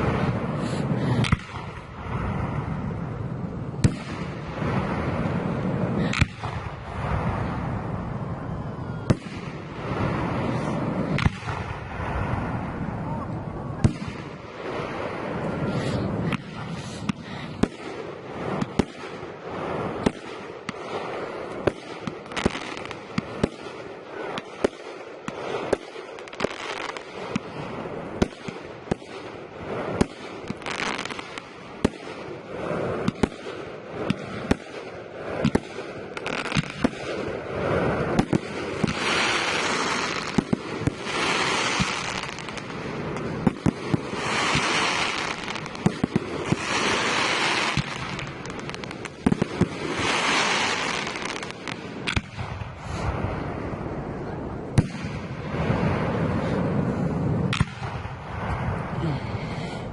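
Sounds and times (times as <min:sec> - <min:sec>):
firework crackling: 0:00.0 - 0:59.9.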